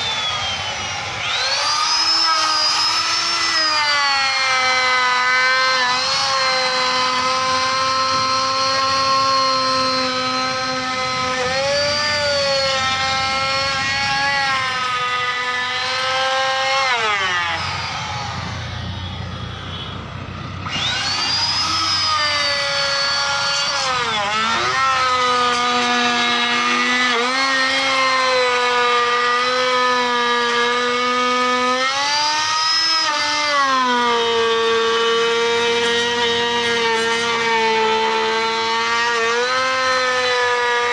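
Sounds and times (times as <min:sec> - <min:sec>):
electric router whining: 0:00.0 - 0:40.9.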